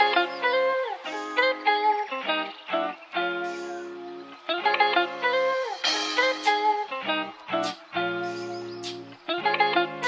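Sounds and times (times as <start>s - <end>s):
guitar-led instrumental music: 0.0s - 10.0s.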